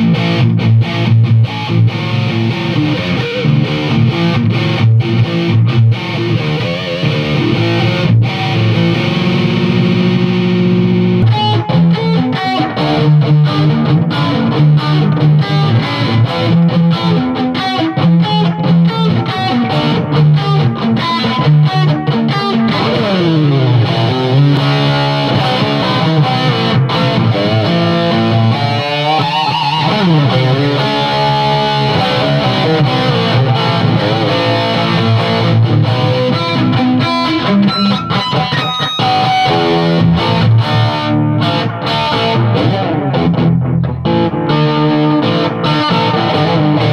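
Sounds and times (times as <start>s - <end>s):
distorted electric guitar riffing: 0.0s - 46.9s.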